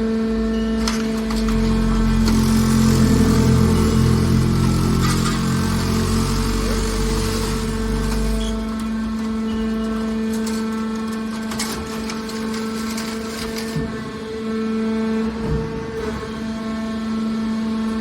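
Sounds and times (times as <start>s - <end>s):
machine power unit humming: 0.0s - 18.0s.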